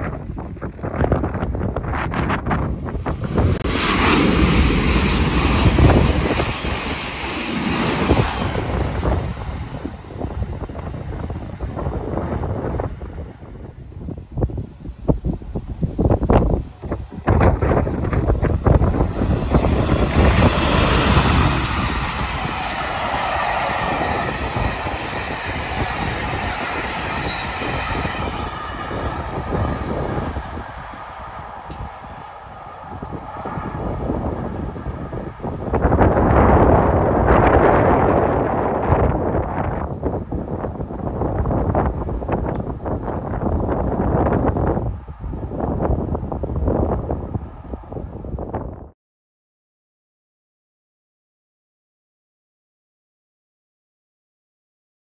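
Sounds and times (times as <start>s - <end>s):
high-speed train passing: 0.0s - 49.0s
wind noise on microphone: 0.0s - 49.0s.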